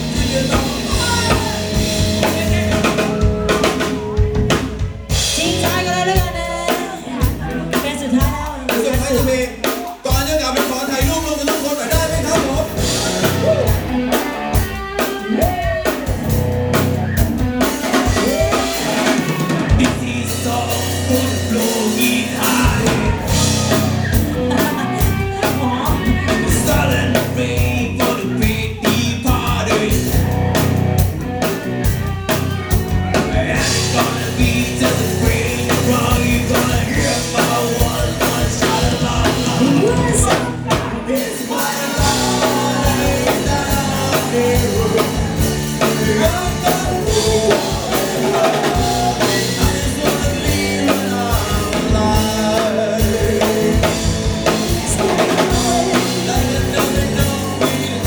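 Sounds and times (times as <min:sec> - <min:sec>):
person singing: 0:00.0 - 0:30.8, 0:32.3 - 0:58.0
bass: 0:00.0 - 0:58.0
drum kit beat: 0:00.0 - 0:58.0.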